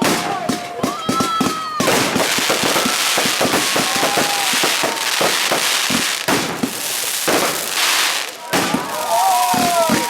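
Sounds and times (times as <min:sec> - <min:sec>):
fireworks bangs and pops: 0:00.0 - 0:10.0
fireworks crackling: 0:00.0 - 0:10.0.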